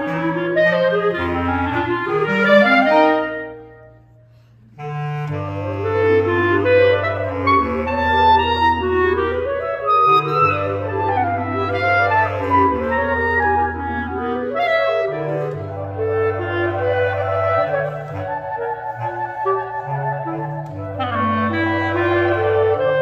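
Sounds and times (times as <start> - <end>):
clarinet ensemble playing: 0.0 - 23.0.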